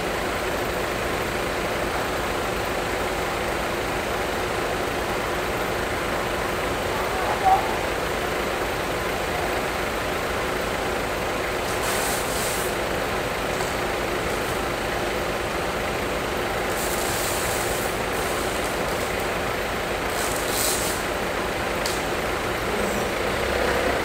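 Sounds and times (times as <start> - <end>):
truck engines running: 0.0 - 24.0.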